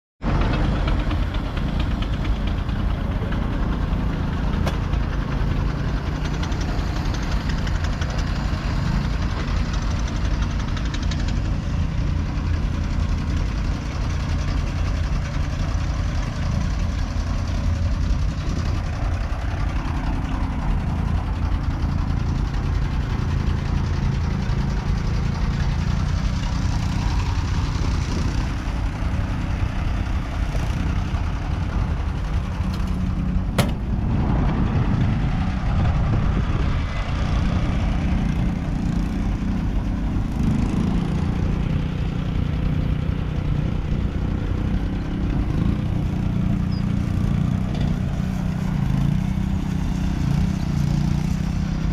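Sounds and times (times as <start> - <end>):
tractor engine running steadily: 0.2 - 51.9.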